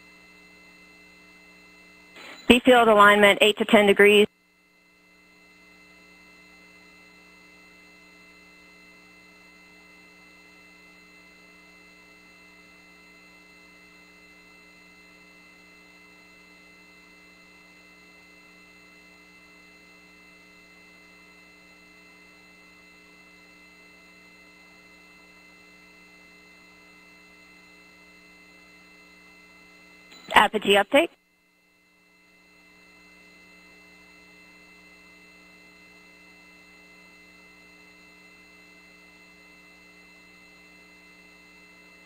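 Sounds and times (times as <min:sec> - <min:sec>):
faint electrical hum with tones: 0:00.0 - 0:42.0.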